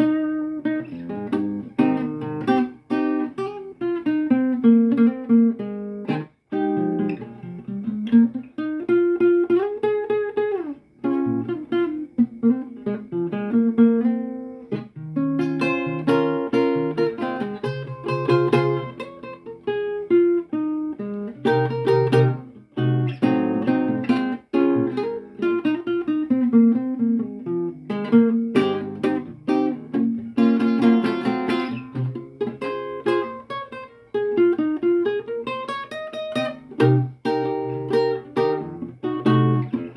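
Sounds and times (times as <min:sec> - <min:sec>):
acoustic guitar picking: 0:00.0 - 0:39.9.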